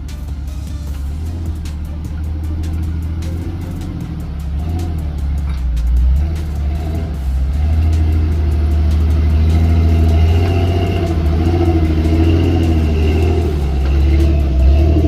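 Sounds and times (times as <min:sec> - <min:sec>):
vehicle engine droning under load: 0:00.0 - 0:15.0.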